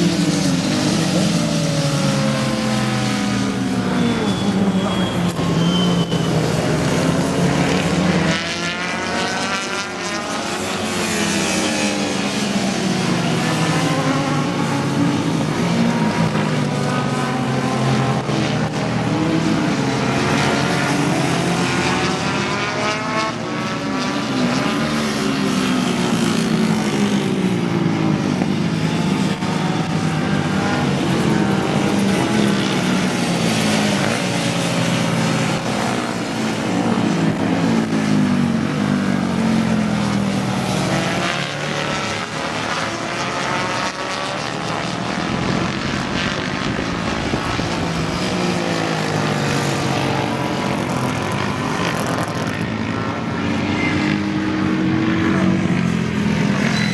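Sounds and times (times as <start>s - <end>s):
racing motorcycles revving past: 0.0s - 56.9s.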